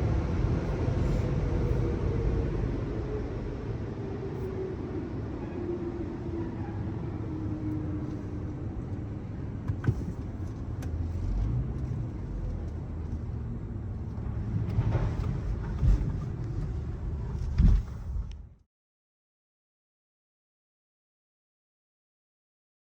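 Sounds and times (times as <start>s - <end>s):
car engine and road noise: 0.0s - 18.6s.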